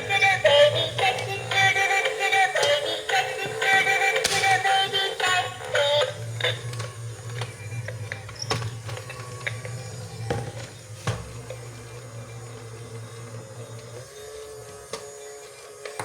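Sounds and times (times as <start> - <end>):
toy robot motor humming: 0.0 - 16.0.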